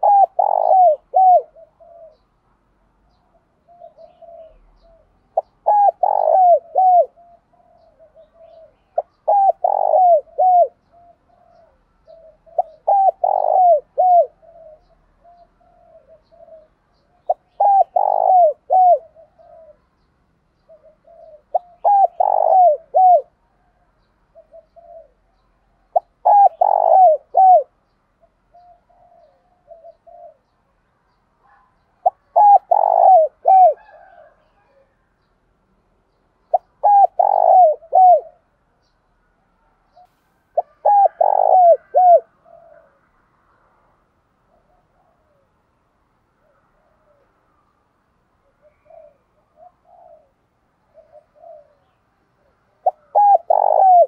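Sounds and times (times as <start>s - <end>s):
dove cooing: 0.0s - 2.4s, 3.2s - 20.0s, 20.6s - 30.6s, 32.0s - 35.0s, 36.5s - 38.6s, 39.9s - 43.0s, 44.5s - 45.6s, 46.4s - 47.4s, 48.4s - 54.0s.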